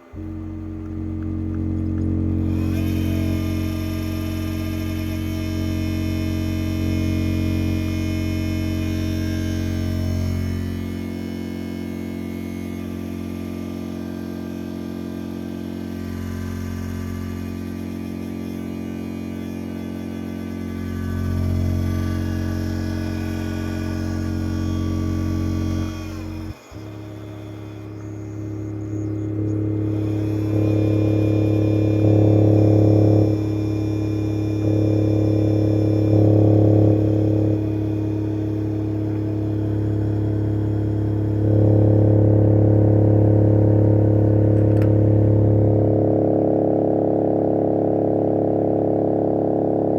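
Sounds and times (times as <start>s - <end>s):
loudspeaker low buzzing hum: 0.0s - 49.9s
subwoofer low bass tone: 0.0s - 49.9s.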